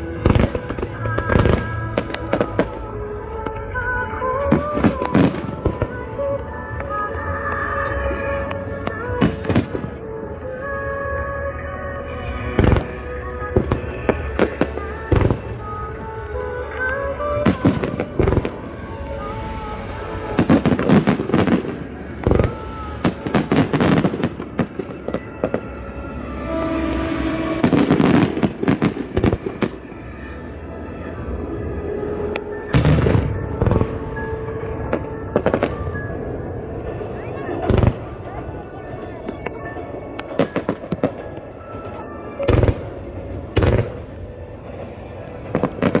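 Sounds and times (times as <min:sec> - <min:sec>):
background music: 0:00.0 - 0:46.0
firework crackle: 0:00.0 - 0:46.0.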